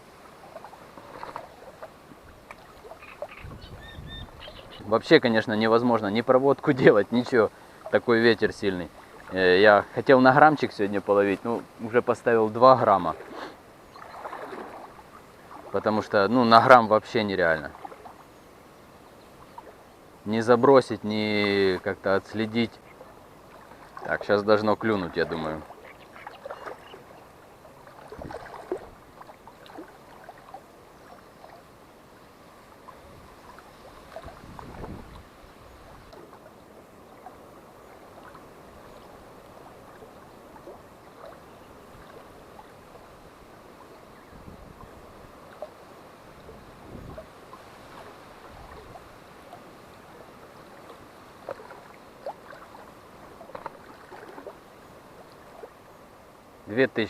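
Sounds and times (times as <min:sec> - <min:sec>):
small waves lapping: 0:00.0 - 0:57.0
steady wind: 0:00.0 - 0:57.0.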